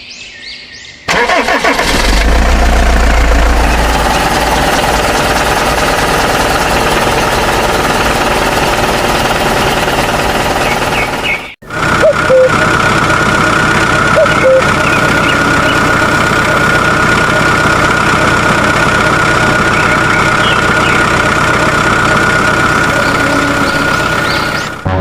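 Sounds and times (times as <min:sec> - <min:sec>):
rattling mechanical clatter: 0:01.2 - 0:24.8.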